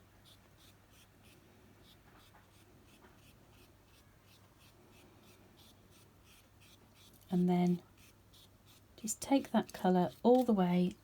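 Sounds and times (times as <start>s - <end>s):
paintbrush dabbing on paper: 0.2s - 11.0s.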